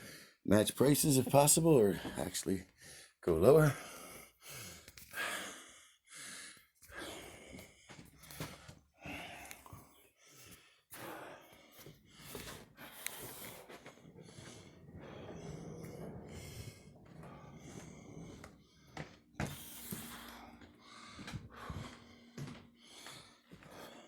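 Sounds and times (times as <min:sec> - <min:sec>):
person breathing in puffs: 0:03.8 - 0:24.0.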